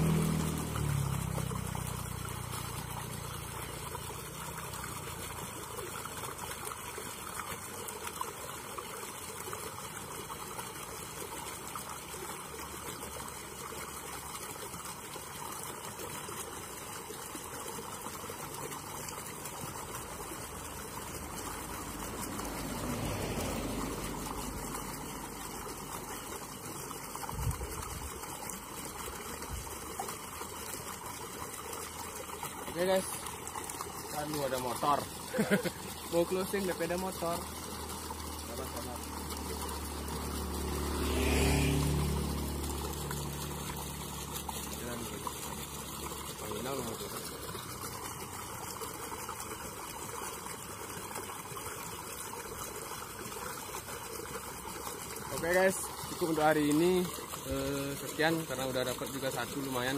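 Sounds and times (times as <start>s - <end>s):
river water trickling: 0.0s - 59.9s.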